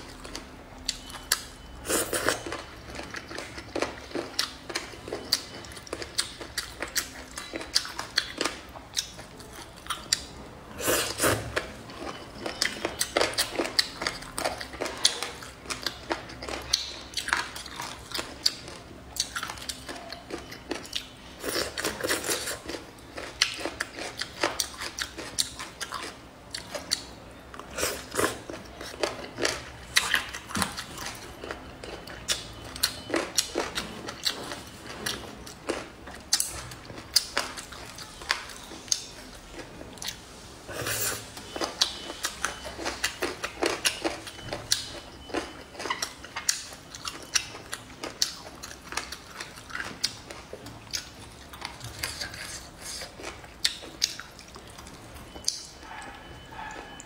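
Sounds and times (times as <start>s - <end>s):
person chewing wetly: 0.0s - 57.0s.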